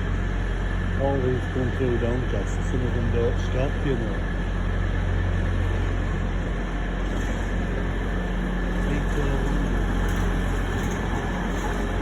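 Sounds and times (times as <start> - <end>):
train machinery rumble: 0.0 - 12.0.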